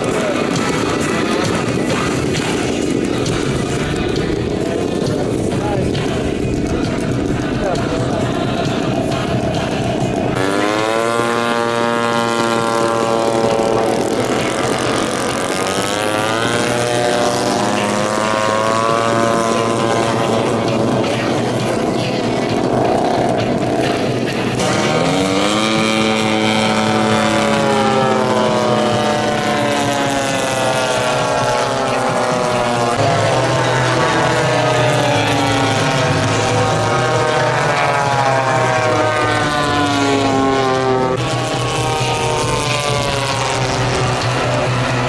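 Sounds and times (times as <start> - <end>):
model airplane piston engines: 0.0 - 45.0.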